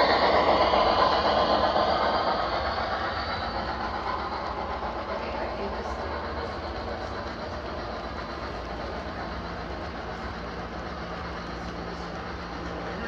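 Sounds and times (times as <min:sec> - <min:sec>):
model train wheels rumbling: 0:00.0 - 0:13.0.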